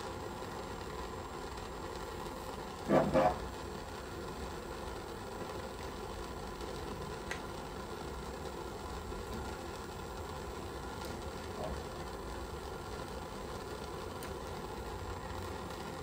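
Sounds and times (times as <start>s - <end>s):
torch hissing: 0.0s - 16.0s.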